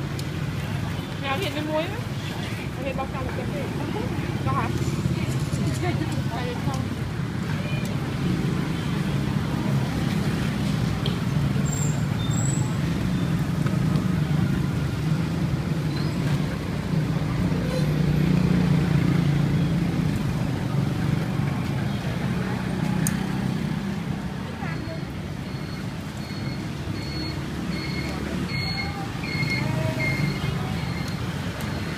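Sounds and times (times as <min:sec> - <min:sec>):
engines humming close by: 0:00.0 - 0:31.9
street traffic noise: 0:00.0 - 0:31.9.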